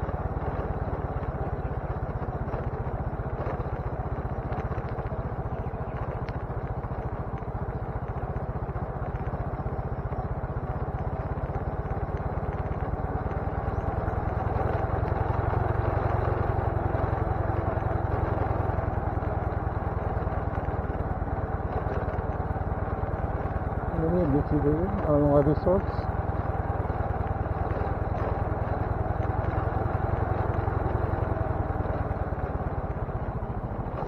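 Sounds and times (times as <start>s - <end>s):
motorcycle engine riding: 0.0s - 34.0s.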